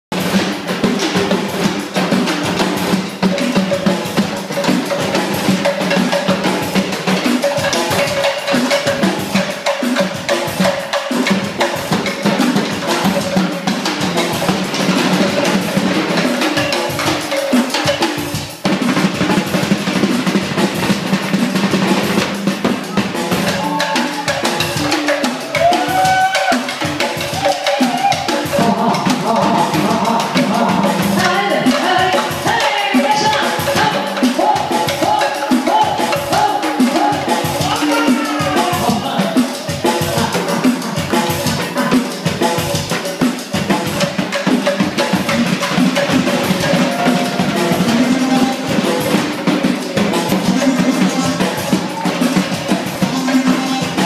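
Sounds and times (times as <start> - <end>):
fast drumming and percussion: 0.1 - 54.0
dance music: 0.2 - 54.0.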